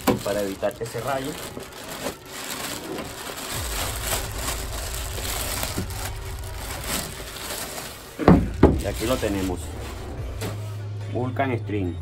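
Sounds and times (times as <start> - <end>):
plastic bag rustling and crinkling: 0.0 - 10.8.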